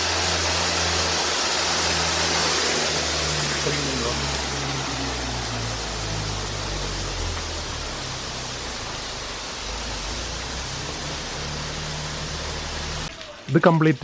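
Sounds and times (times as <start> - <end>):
water spraying from shower nozzles: 0.0 - 14.0.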